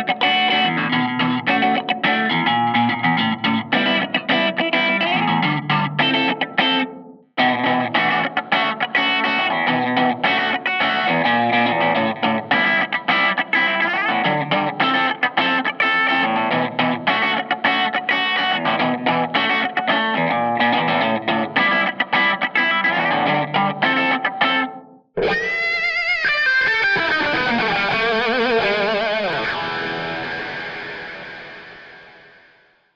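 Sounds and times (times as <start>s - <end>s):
electric guitar picked notes: 0.0s - 32.6s.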